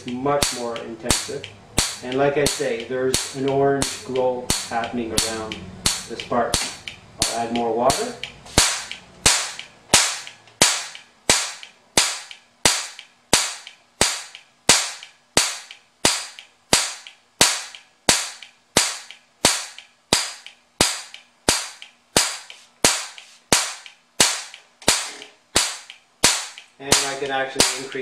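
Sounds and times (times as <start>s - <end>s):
spark plug cracking: 0.0s - 28.0s.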